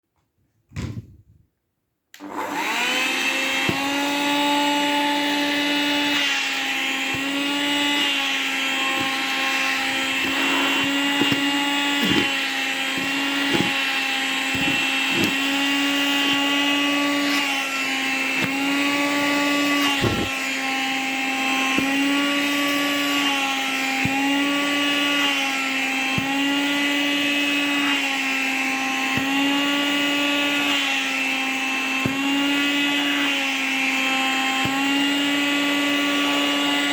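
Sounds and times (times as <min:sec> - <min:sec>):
vacuum cleaner running: 0:02.2 - 0:36.9.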